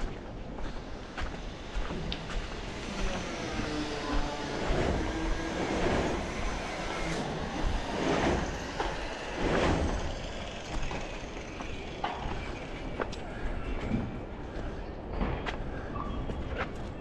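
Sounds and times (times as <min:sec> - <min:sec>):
road traffic passing: 0:00.0 - 0:15.7.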